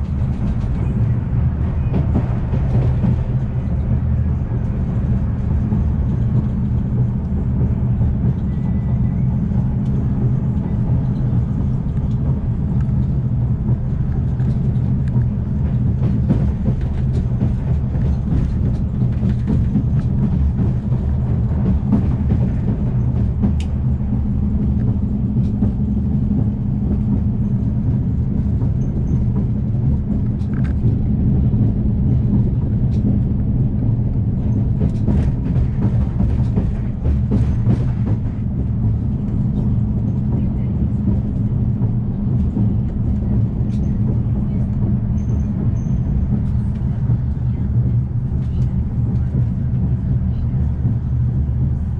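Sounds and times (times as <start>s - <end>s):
high-speed train rumble and hum: 0.0s - 51.9s.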